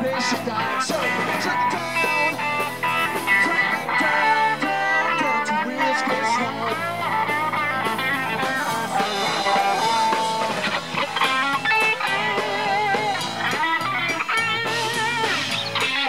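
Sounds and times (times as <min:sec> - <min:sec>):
drums and cymbals: 0:00.0 - 0:16.0
electric guitar lead: 0:00.0 - 0:16.0.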